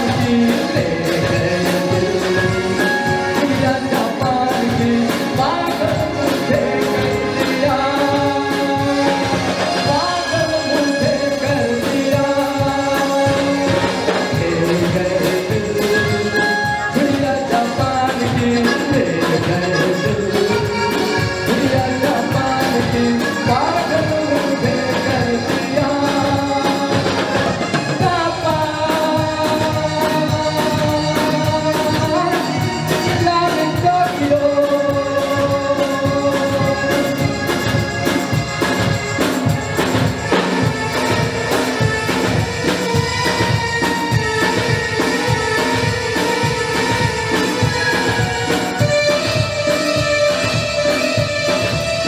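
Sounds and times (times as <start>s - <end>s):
drum kit beat: 0.0s - 52.0s
keyboards: 0.0s - 52.0s
man singing into a microphone: 0.0s - 52.0s.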